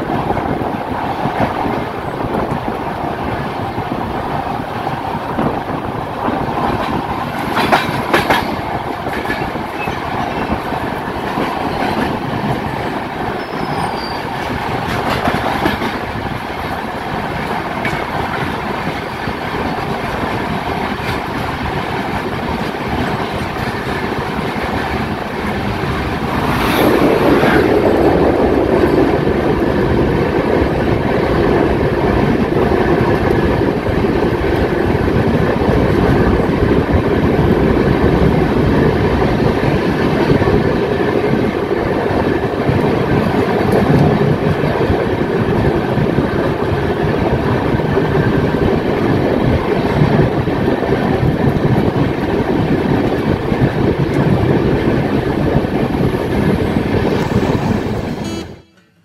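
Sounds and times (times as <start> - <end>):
passing train whoosh: 0.0 - 58.8
train wheel and wind noise: 0.0 - 58.8.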